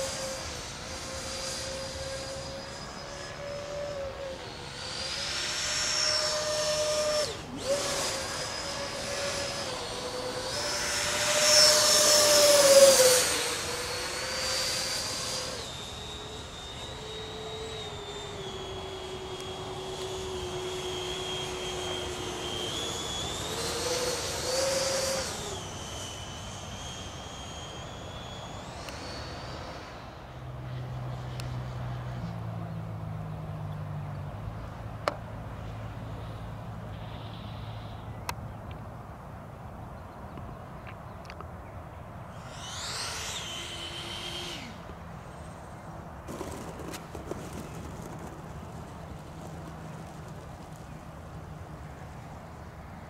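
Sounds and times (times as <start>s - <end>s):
electric ducted fan jet whining: 0.0s - 53.0s.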